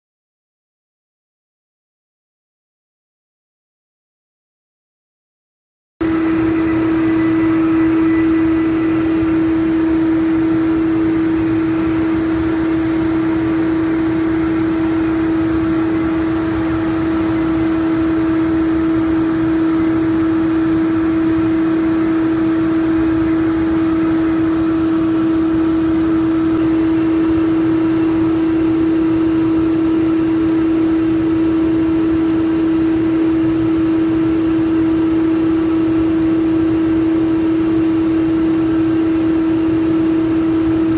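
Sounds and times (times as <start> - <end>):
steady machine hum: 6.0 - 40.9.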